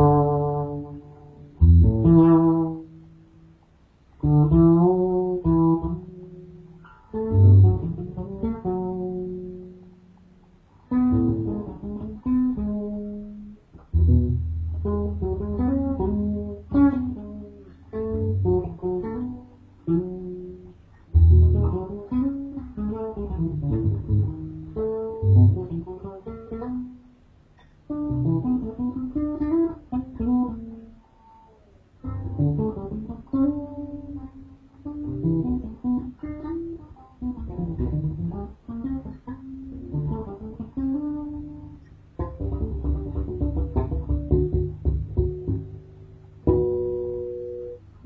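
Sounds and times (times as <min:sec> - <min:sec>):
bass guitar fingerstyle: 0:00.0 - 0:48.0.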